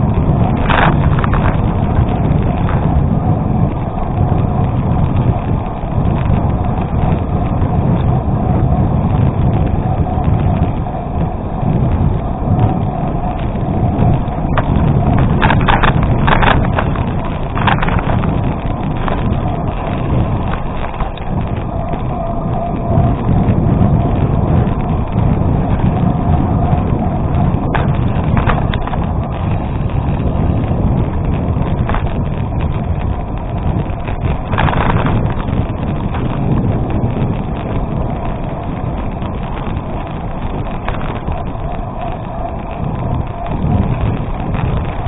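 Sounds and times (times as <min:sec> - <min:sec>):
bike tyres rolling on gravel: 0:00.0 - 0:45.0
wind buffeting microphone: 0:00.0 - 0:45.0.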